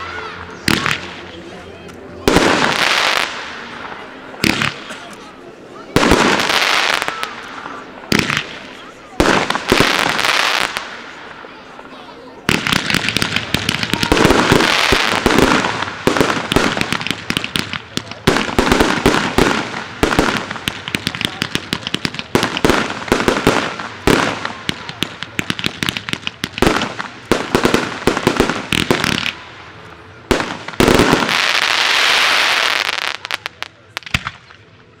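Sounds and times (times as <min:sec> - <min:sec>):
crackling fireworks stars: 0:00.0 - 0:35.0
fireworks bursts and bangs: 0:00.2 - 0:01.4, 0:02.1 - 0:05.0, 0:05.9 - 0:34.8.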